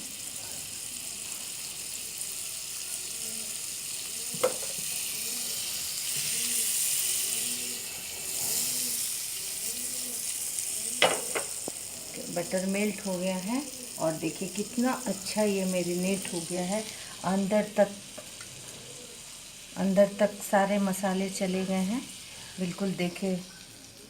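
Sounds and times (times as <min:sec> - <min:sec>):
butter sizzling in a pan: 0:00.0 - 0:24.0.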